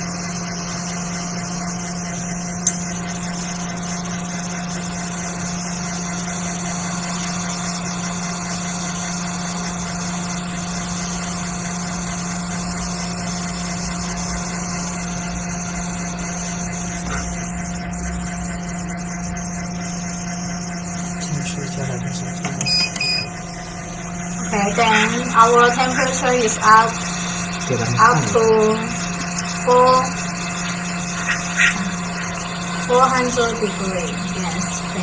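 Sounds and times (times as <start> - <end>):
hot air station humming and hissing: 0.0 - 35.0.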